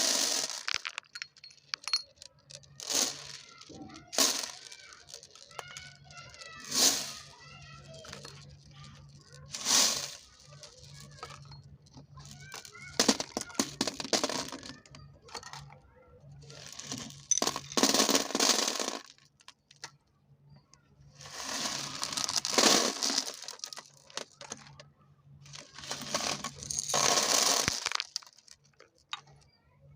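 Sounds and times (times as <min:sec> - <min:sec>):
marbles clattering along a marble run: 0:00.0 - 0:15.7, 0:16.4 - 0:19.9, 0:21.1 - 0:24.8, 0:25.5 - 0:29.4.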